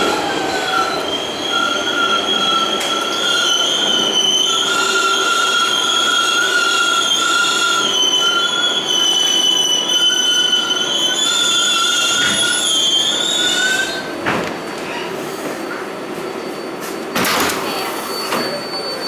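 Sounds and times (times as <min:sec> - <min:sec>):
train wheels squealing on rails: 0:00.0 - 0:19.0.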